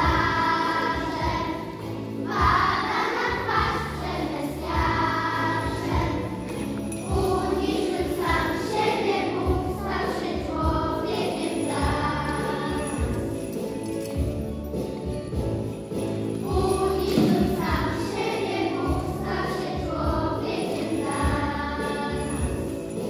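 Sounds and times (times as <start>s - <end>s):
children's choir singing: 0.0s - 14.2s, 15.0s - 23.0s
instrumental accompaniment: 0.0s - 23.0s
small bells shaking: 0.0s - 23.0s.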